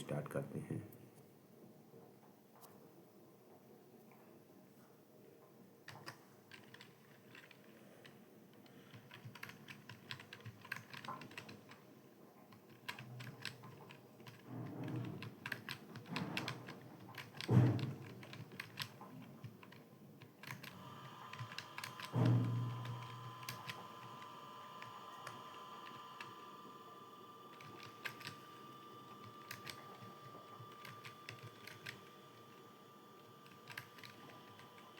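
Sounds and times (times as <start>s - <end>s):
typing on computer keyboard: 5.9s - 26.5s, 27.4s - 34.9s.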